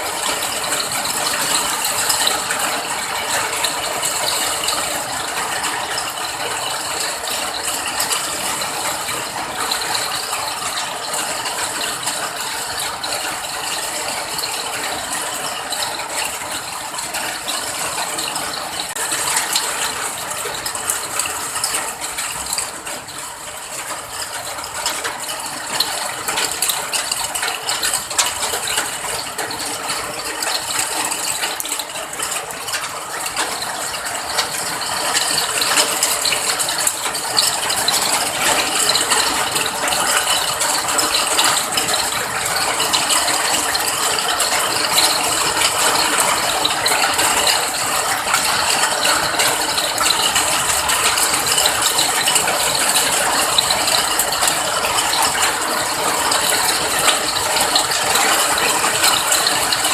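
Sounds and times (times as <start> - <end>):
rain pattering on hard surfaces: 0.0 - 59.9.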